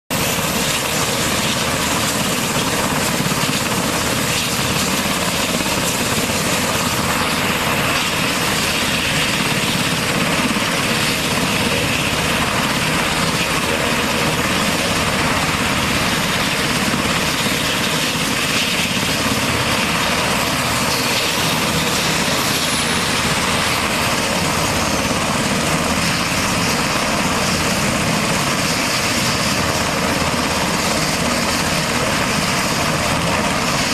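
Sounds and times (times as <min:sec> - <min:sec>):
helicopter running: 0:00.1 - 0:33.9.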